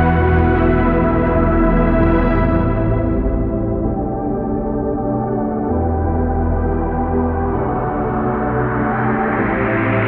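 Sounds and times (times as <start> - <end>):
slow held ambient chords: 0.0 - 10.0.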